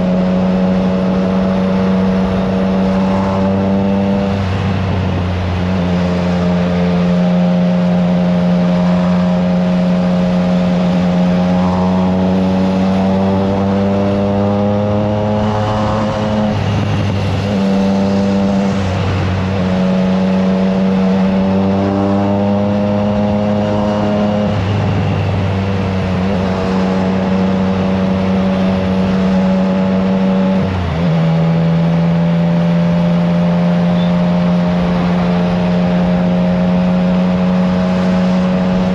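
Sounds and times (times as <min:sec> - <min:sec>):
wind rushing over microphone: 0:00.0 - 0:33.4, 0:34.4 - 0:38.9
motorcycle engine at steady revs: 0:00.0 - 0:38.9.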